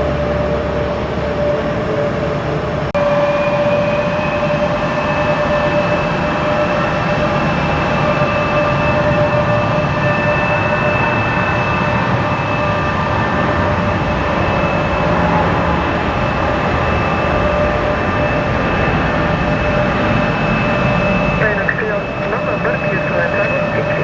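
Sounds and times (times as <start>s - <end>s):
constant engine whine: 0.0s - 24.0s
jet engines rumbling: 0.0s - 24.0s.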